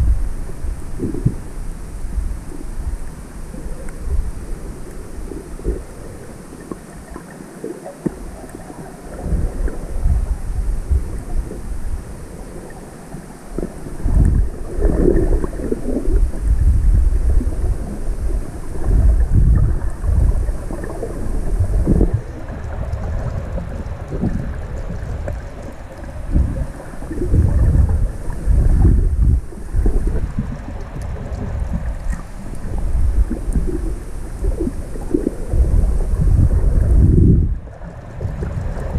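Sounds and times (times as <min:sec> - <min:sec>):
muffled seawater sloshing underwater: 0:00.0 - 0:38.9.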